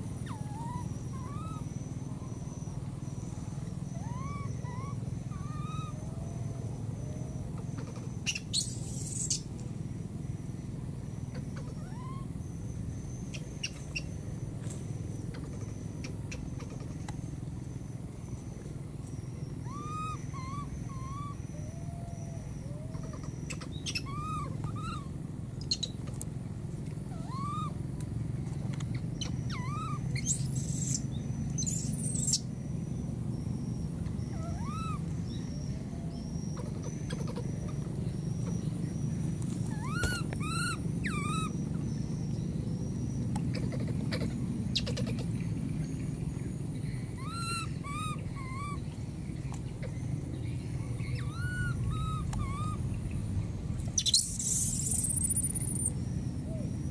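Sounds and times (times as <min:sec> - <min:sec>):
baby monkey coo calls: 0:00.0 - 0:09.6, 0:11.2 - 0:14.2, 0:15.1 - 0:17.3, 0:19.1 - 0:26.0, 0:27.0 - 0:27.9, 0:28.9 - 0:32.6, 0:33.2 - 0:45.8, 0:46.8 - 0:56.9.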